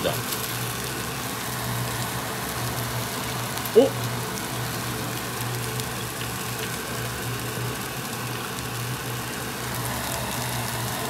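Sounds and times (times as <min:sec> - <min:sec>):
ribs sizzling on a grill: 0:00.0 - 0:11.0.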